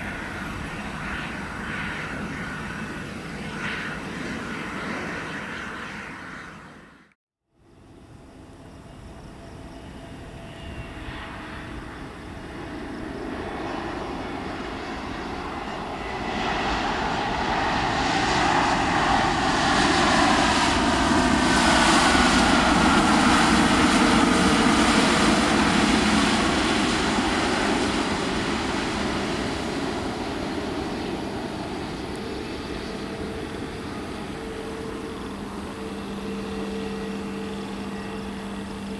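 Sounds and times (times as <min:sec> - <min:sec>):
jet engines whining and rushing: 0:00.0 - 0:07.2, 0:07.9 - 0:38.9.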